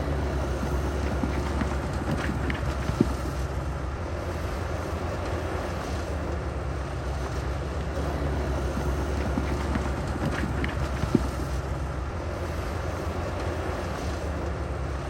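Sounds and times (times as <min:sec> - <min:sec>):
diesel machinery engine rumble: 0:00.0 - 0:15.0.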